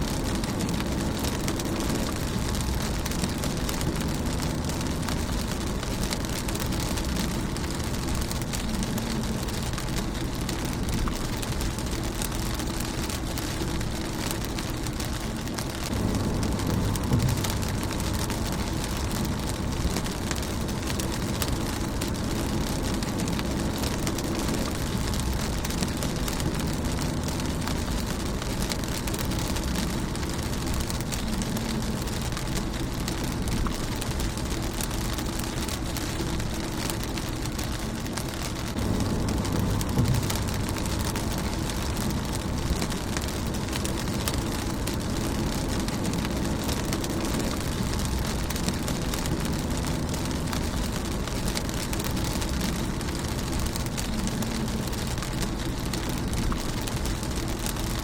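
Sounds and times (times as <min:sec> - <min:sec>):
rain on a car windshield: 0:00.0 - 0:58.0.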